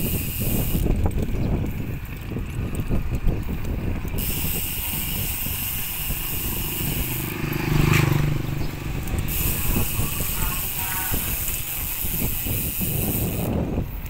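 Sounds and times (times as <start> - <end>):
bicycle tyres on concrete: 0.0 - 14.0
wind buffeting microphone: 0.0 - 14.0.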